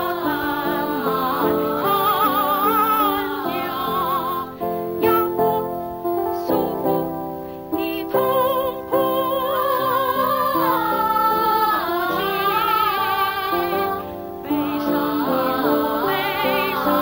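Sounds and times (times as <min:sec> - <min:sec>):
woman singing with vibrato: 0:00.0 - 0:07.2, 0:07.8 - 0:17.0.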